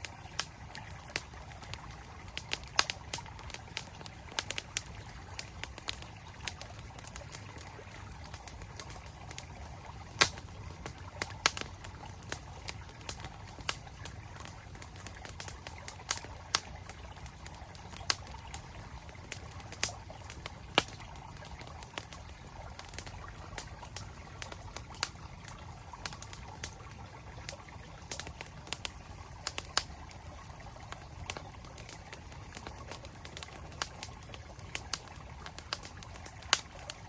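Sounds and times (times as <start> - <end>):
campfire crackling and popping: 0.0 - 37.0
flowing stream: 0.0 - 37.0.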